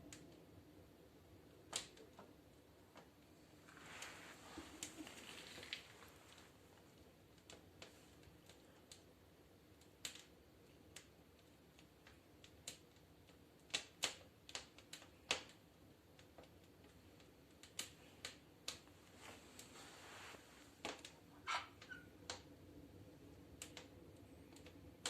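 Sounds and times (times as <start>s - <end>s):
firewood crackling in stove: 0.0s - 25.0s.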